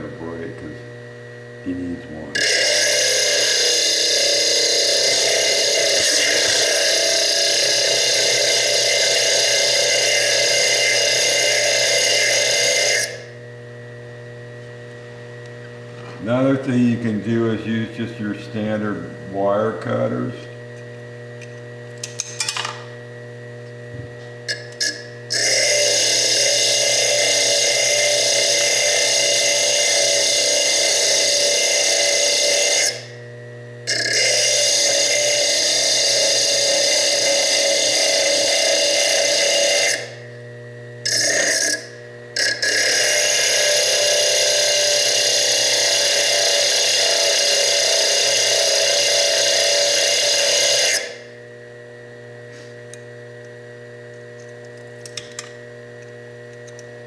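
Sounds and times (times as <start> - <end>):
bench lathe whining: 0.0 - 57.0.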